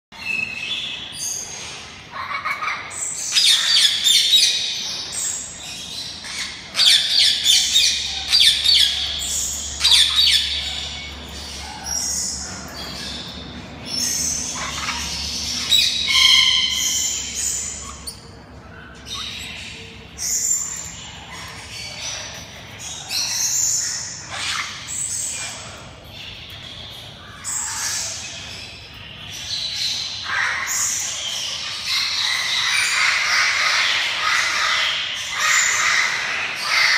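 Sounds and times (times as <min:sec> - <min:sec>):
parrots squawking: 0:01.2 - 0:36.9.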